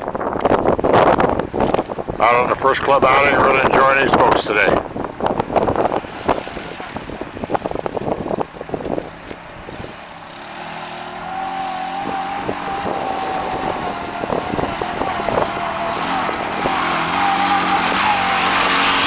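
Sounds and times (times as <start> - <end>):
utility vehicle engine: 0.0 - 19.0.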